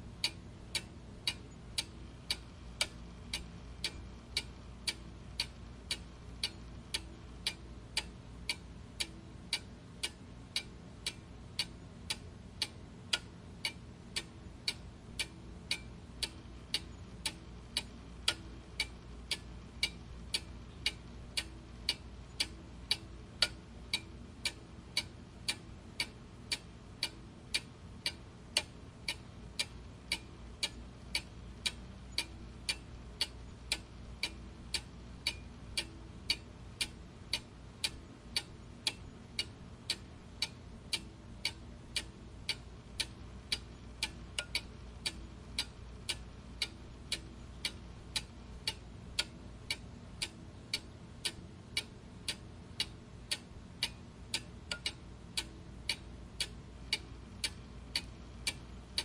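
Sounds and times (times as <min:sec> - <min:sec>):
clock ticking: 0:00.2 - 0:59.0.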